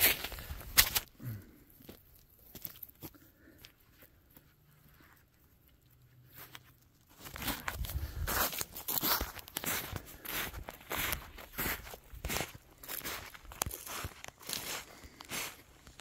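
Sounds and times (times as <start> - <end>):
footsteps on rough ground: 0.0 - 5.4, 6.4 - 16.0.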